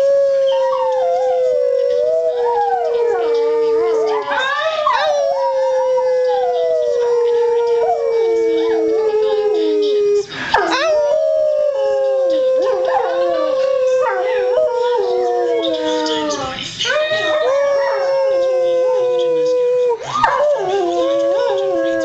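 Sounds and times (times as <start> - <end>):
dog howling: 0.0 - 22.0.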